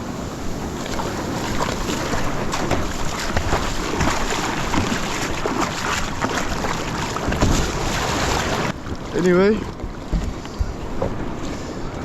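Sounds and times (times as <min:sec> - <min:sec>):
surf splashing: 0:00.0 - 0:12.0
wind buffeting the microphone: 0:00.0 - 0:12.0
short splashes and knocks: 0:00.8 - 0:11.3.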